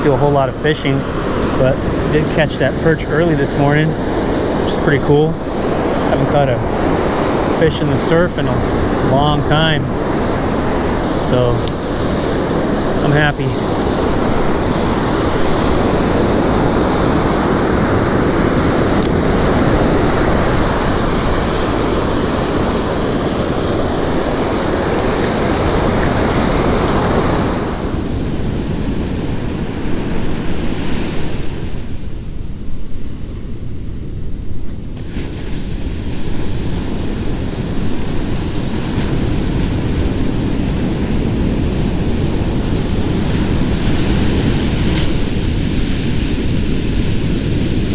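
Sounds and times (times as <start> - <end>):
ocean surf breaking: 0.0 - 47.9
wind rumble on microphone: 0.0 - 47.9.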